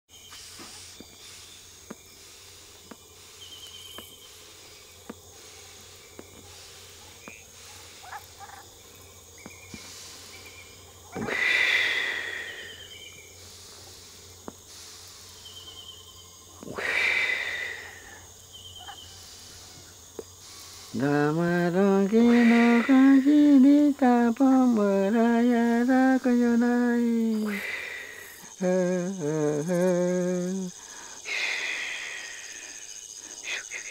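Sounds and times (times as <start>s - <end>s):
high insect chirps: 0.1s - 33.9s
man exhaling smoke hissing: 0.2s - 21.2s, 22.2s - 23.5s, 27.1s - 28.7s, 29.9s - 33.9s.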